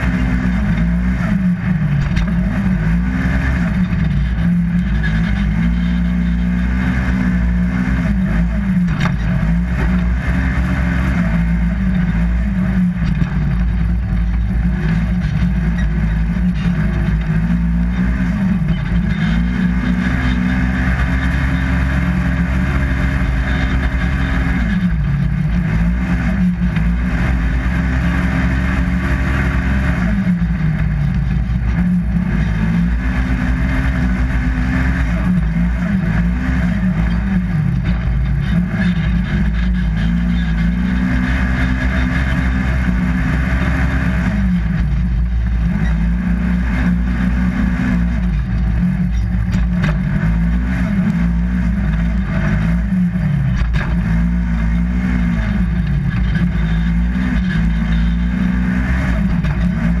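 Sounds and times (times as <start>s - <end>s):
engine revving hard: 0.0s - 60.0s.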